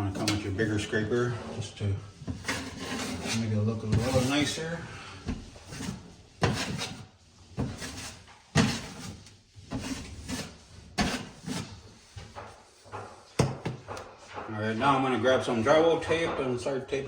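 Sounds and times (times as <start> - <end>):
drywall knife scraping wall: 0.0 - 16.8.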